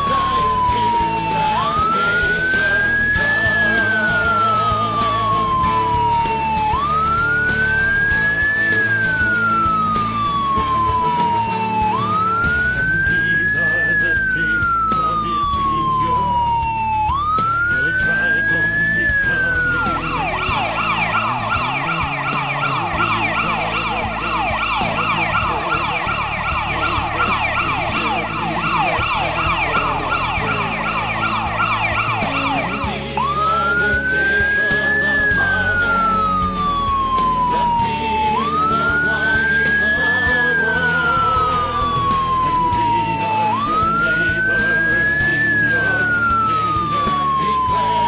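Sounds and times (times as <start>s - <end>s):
ambulance siren wailing and yelping: 0.0s - 48.0s.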